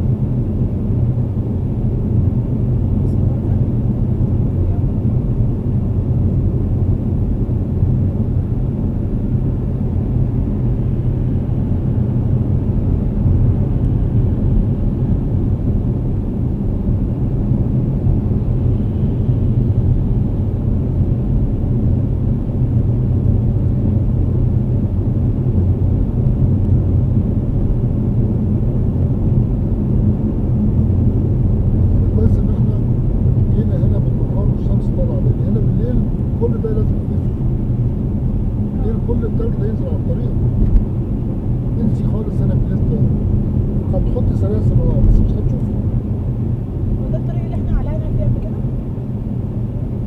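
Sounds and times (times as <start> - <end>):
car cabin road noise: 0.0 - 50.0.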